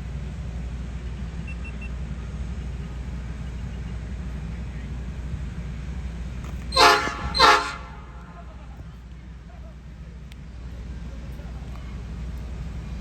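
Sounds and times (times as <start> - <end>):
locomotive engine rumbling: 0.1 - 13.0.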